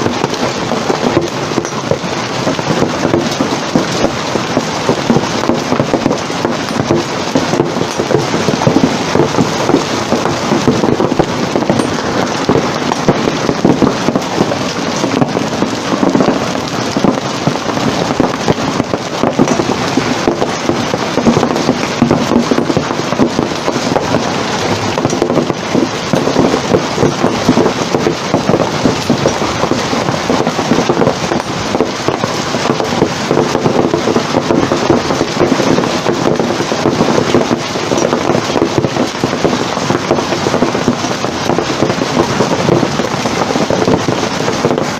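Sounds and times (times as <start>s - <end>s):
hailstones clattering: 0.0s - 44.9s
hiss of falling ice and rain: 0.0s - 44.9s.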